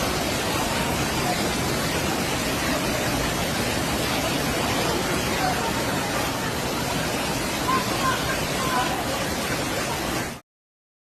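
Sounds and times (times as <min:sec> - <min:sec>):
floodwater rushing: 0:00.0 - 0:10.4.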